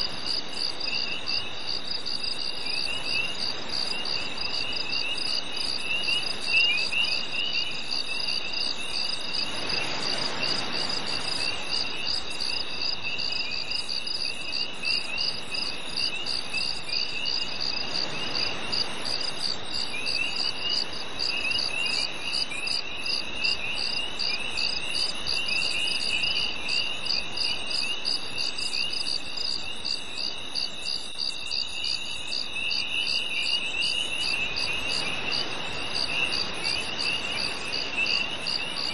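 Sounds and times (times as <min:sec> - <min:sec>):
cricket chirping: 0:00.0 - 0:38.9
low insect trill: 0:00.0 - 0:38.9.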